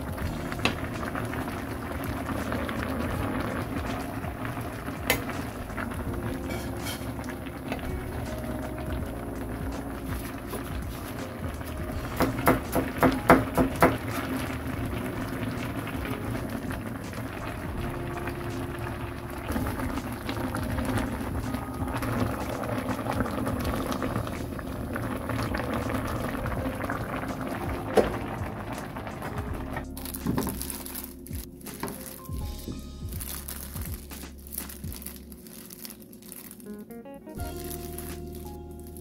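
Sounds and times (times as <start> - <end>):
broth bubbling at a boil: 0.0 - 36.7.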